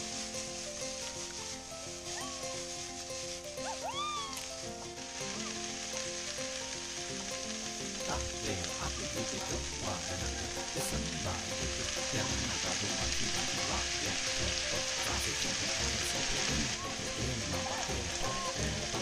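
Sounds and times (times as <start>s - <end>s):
mushrooms sizzling in hot oil: 0.0s - 19.0s.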